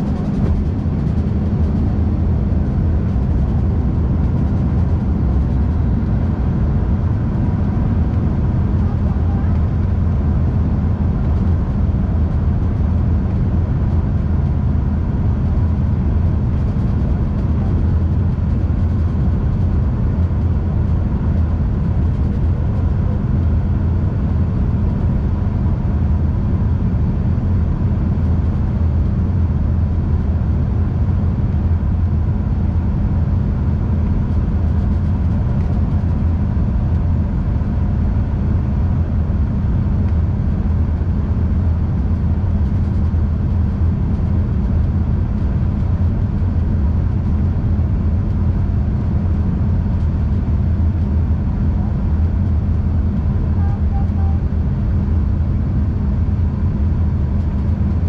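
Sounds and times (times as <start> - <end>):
faint steady whine: 0.0 - 58.0
jet engines low rumble: 0.0 - 58.0.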